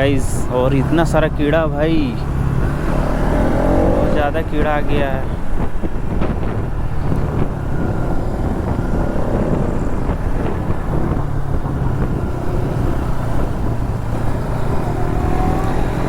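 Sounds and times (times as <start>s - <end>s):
motorcycle engine cruising: 0.0s - 16.0s
wind rushing over microphone: 0.0s - 16.0s.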